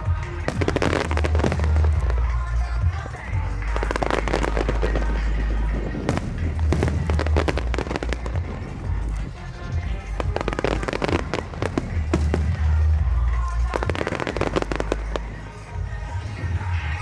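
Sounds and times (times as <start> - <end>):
fireworks bangs and crackling: 0.0 - 17.0
music playing: 0.0 - 17.0.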